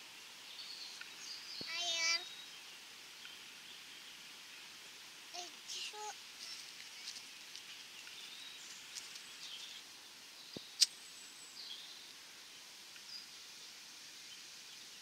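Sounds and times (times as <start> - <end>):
faint bird chirps: 0.4 - 4.3, 5.4 - 15.0.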